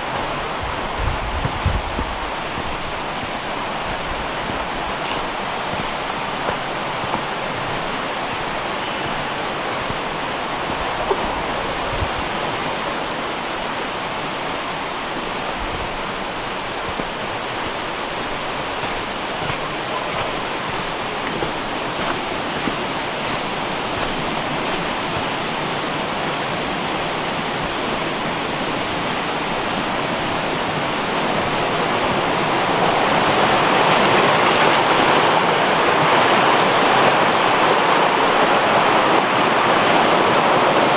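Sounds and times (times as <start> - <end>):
small brook running: 0.0 - 40.9.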